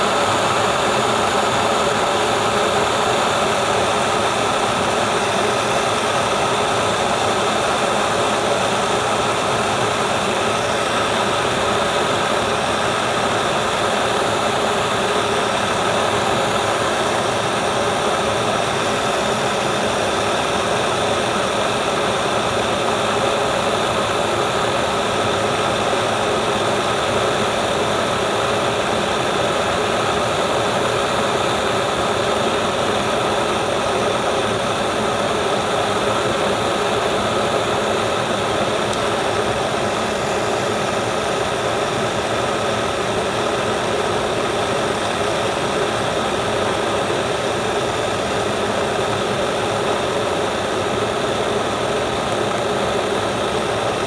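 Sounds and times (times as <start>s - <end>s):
kettle heating water: 0.0s - 54.0s.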